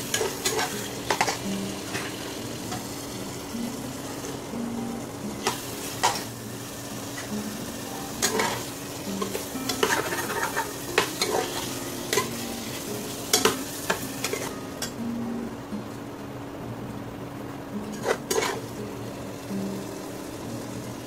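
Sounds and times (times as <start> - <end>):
food sizzling in pot: 0.0 - 15.1, 17.8 - 21.0.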